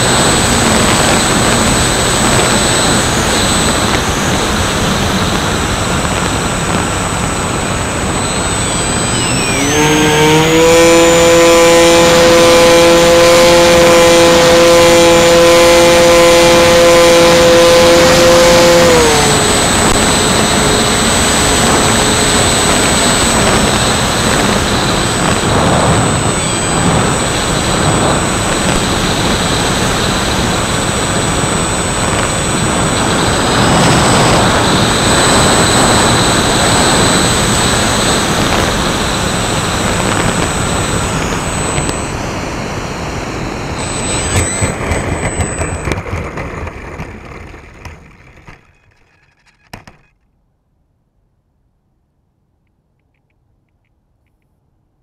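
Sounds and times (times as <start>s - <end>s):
electric motors whining: 0.0s - 50.0s.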